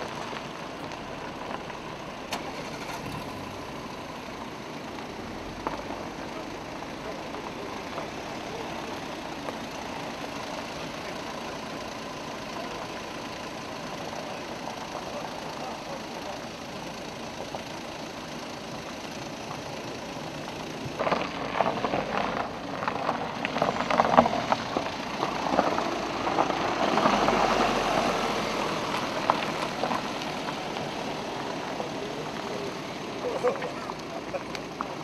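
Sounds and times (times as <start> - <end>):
low engine noise: 0.0 - 35.0
tyres crunching on gravel: 0.0 - 35.0.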